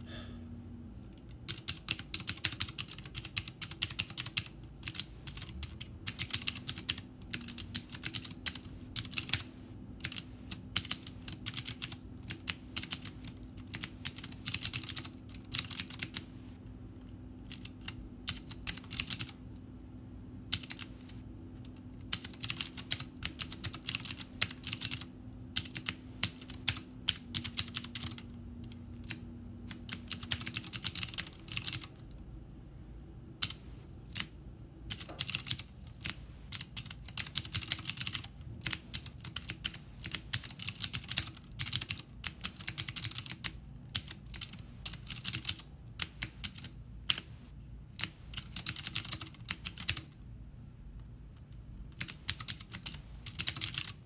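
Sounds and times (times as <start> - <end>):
clicky mechanical keyboard typing: 1.2 - 19.4, 20.5 - 32.1, 33.4 - 47.3, 48.0 - 50.2, 51.4 - 54.0.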